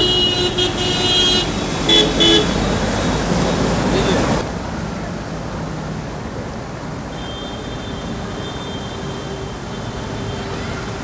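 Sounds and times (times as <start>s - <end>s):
motorcycle engines: 0.0s - 11.0s
traffic noise: 0.0s - 11.0s.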